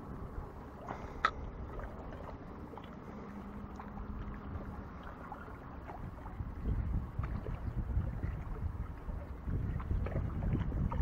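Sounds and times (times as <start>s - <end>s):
water: 0.0s - 11.0s
wind: 0.0s - 11.0s.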